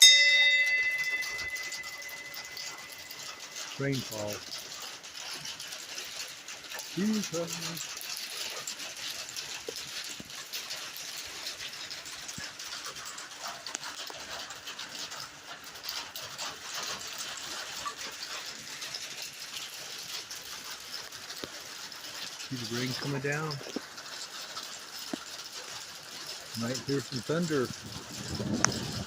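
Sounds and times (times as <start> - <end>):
rain on a tin roof: 0.0 - 29.0.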